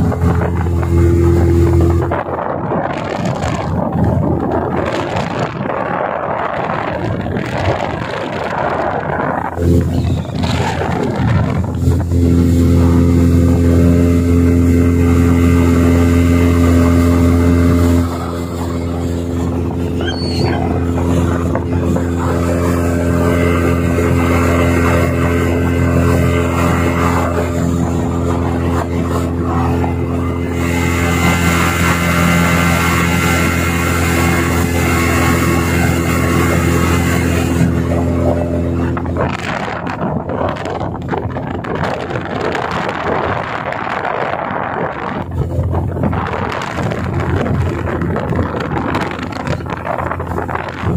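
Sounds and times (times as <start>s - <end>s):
outboard motor running: 0.0s - 50.9s.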